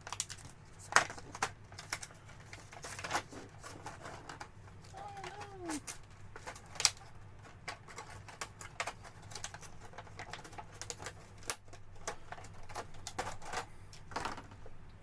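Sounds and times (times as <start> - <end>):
faint low hum: 0.0 - 15.0
plastic parts clicking and tapping: 0.0 - 15.0.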